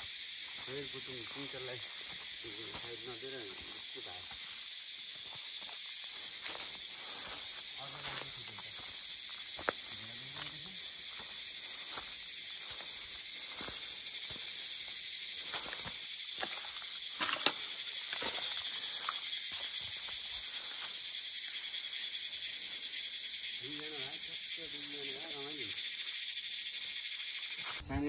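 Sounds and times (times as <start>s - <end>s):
insects buzzing: 0.0s - 28.0s.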